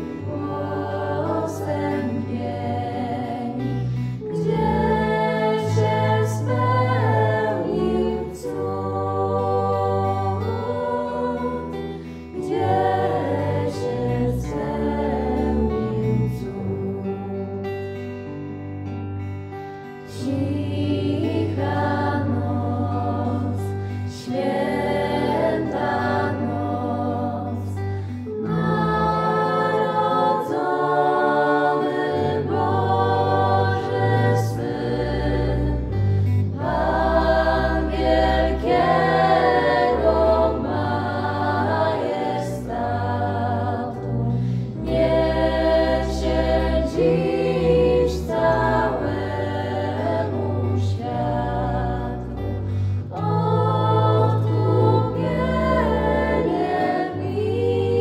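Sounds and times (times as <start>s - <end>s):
group of voices singing: 0.0s - 58.0s
instrumental backing with bass: 0.0s - 58.0s.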